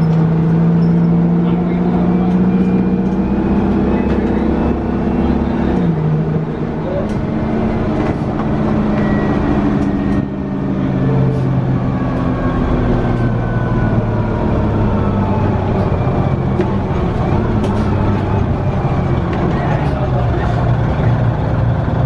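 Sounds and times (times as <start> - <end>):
bus diesel engine under load: 0.0 - 22.0.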